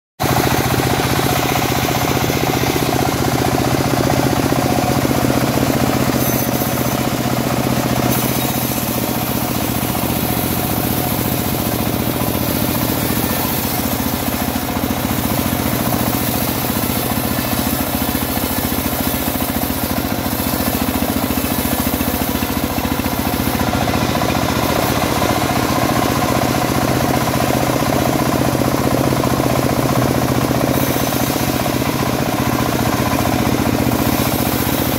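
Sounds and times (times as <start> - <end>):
sawmill engine running: 0.2 - 34.9.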